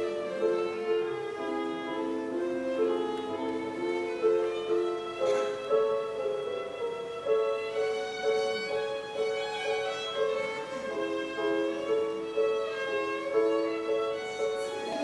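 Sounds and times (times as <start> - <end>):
chamber ensemble playing: 0.0 - 15.0
violin slow melody: 0.0 - 15.0.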